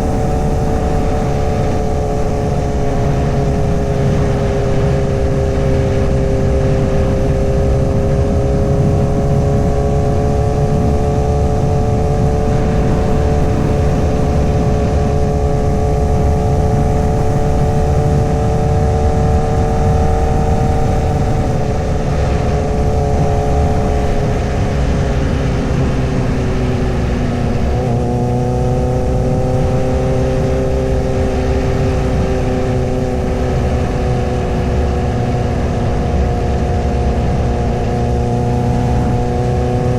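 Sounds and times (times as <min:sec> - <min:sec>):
motorcycle engine cruising: 0:00.0 - 0:39.9
wind and road rumble: 0:00.0 - 0:39.9.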